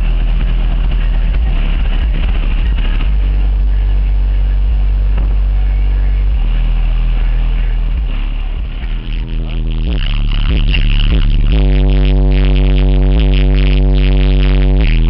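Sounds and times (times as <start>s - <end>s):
bass-heavy music from car subwoofers: 0.0s - 15.0s.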